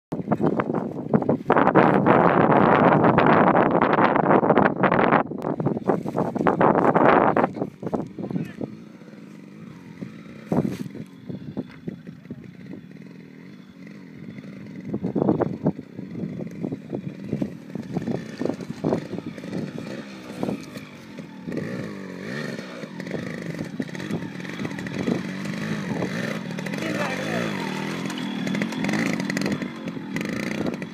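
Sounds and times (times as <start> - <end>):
motorcycle engine revving: 0.2 - 30.9.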